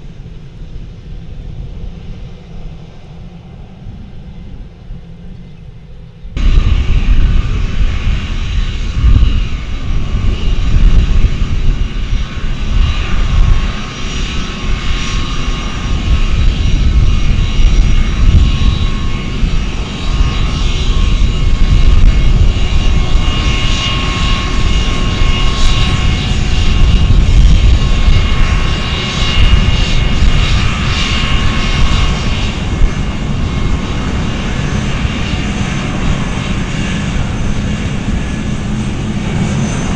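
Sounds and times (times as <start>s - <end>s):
aircraft engines rumbling and whining: 0.0s - 39.9s.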